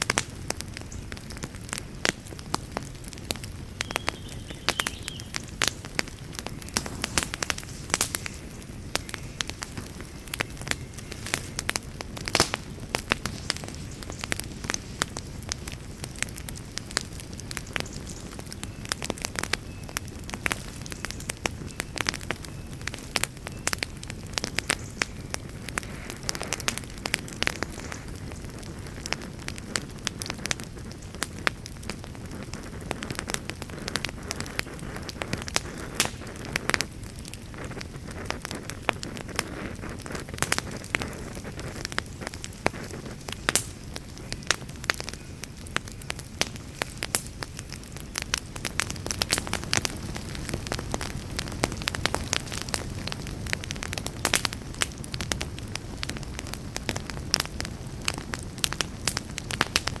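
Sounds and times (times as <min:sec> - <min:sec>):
campfire crackling and popping: 0:00.0 - 1:00.0.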